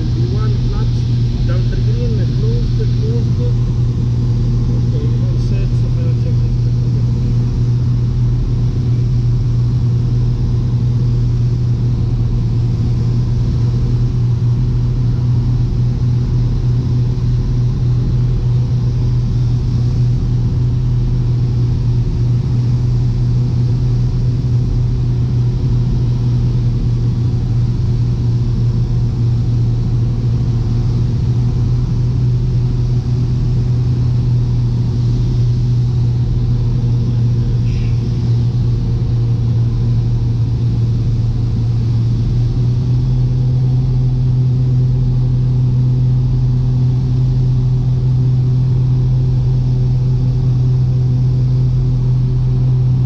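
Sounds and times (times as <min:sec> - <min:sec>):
aircraft engines droning in cockpit: 0:00.0 - 0:53.0.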